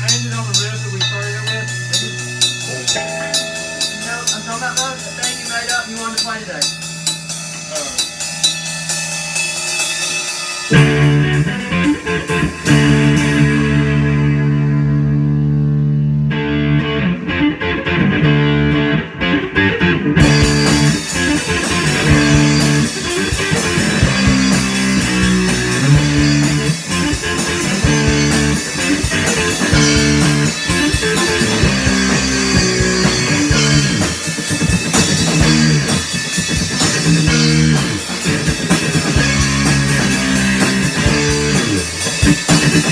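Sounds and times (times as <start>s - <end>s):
drum kit playing: 0.0s - 42.9s
electric guitar chords: 0.0s - 42.9s.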